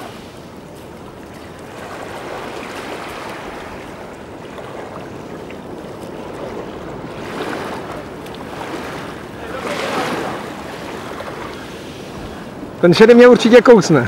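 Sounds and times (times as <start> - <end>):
small waves lapping on sand: 0.0 - 14.0.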